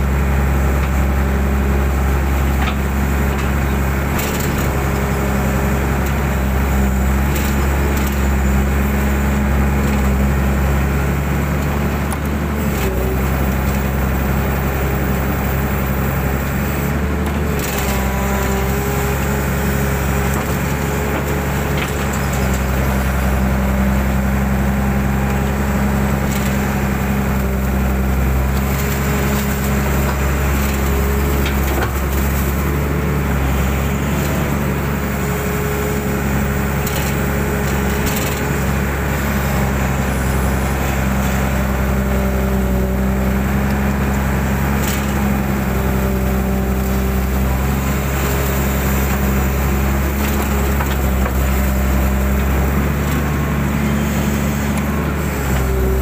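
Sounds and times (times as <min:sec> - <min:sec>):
excavator diesel engine running: 0:00.0 - 0:56.0
hydraulics whining: 0:00.1 - 0:56.0.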